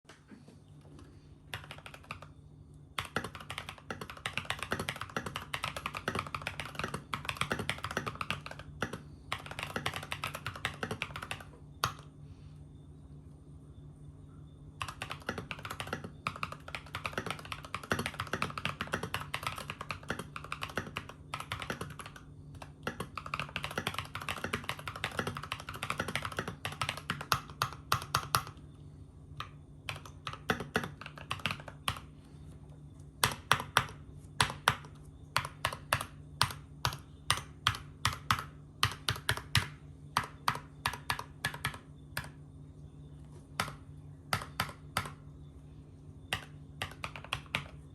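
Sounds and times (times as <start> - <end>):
mechanical keyboard typing: 1.5 - 2.3, 3.0 - 12.1, 14.8 - 28.6, 29.4 - 32.1, 33.2 - 42.4, 43.6 - 45.2, 46.3 - 47.9.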